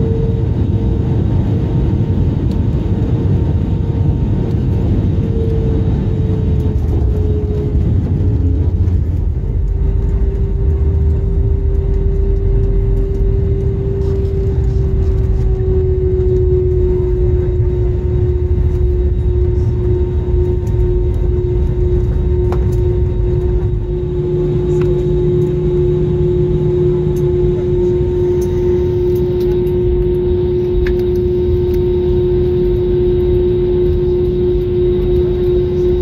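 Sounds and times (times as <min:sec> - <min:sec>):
aircraft cabin rumble: 0:00.0 - 0:36.0
steady whine: 0:00.0 - 0:36.0.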